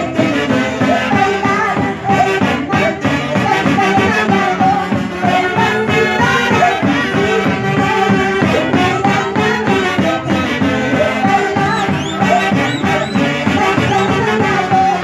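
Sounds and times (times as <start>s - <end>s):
drums keeping a steady beat: 0.0s - 15.0s
folk band music over stage speakers: 0.0s - 15.0s
saxophones and trumpets melody: 0.0s - 15.0s.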